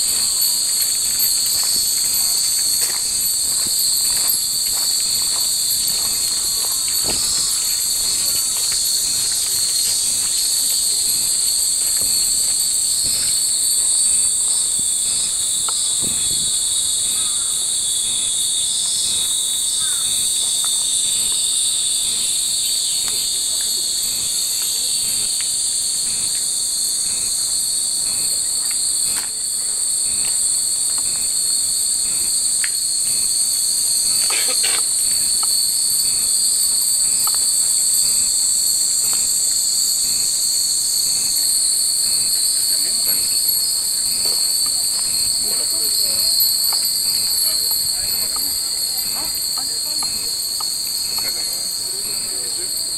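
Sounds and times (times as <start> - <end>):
cicadas buzzing: 0.0 - 52.9.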